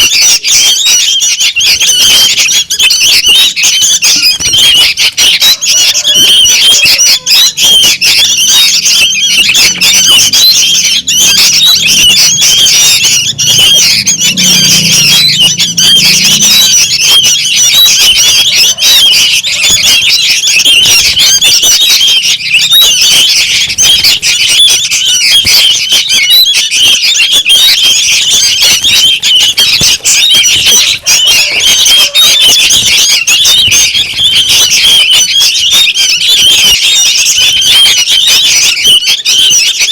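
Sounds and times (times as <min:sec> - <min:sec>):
bird chicks squawking chirps: 0:00.0 - 0:39.9.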